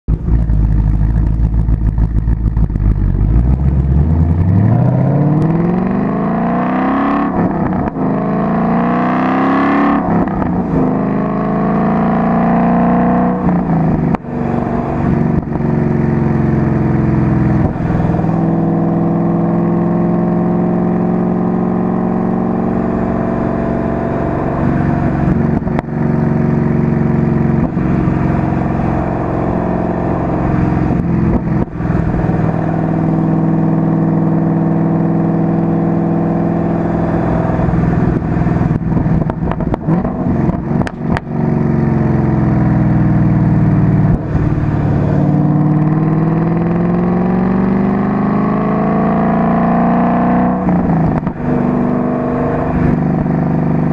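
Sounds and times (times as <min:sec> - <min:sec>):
car engine accelerating: 0:00.1 - 0:53.9.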